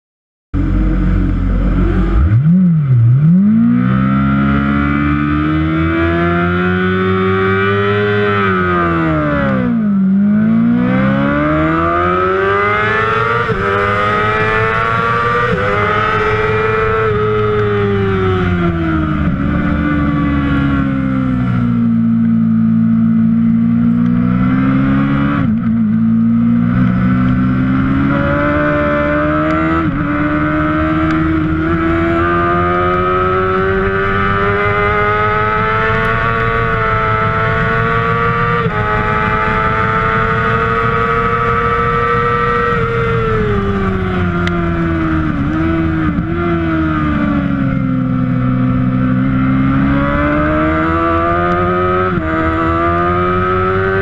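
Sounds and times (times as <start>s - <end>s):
motorcycle engine shifting gears: 0.6s - 54.0s.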